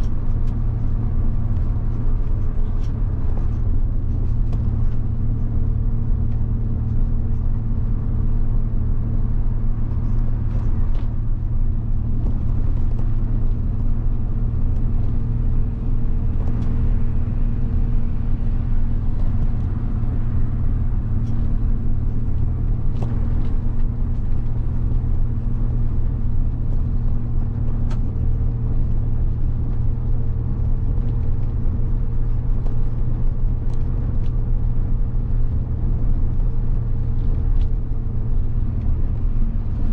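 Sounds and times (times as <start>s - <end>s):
bus diesel engine humming: 0.0s - 39.9s.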